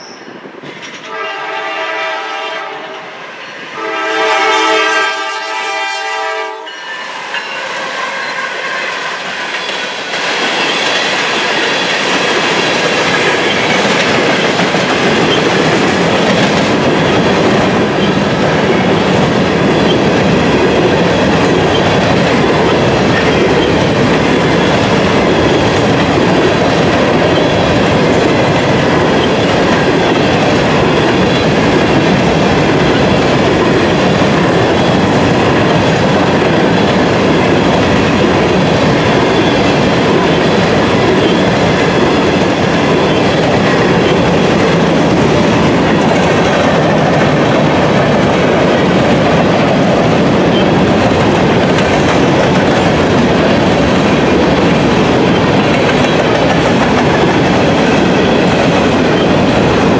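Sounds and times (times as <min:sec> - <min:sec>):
train wheels rumbling and rattling: 0:07.2 - 0:59.9.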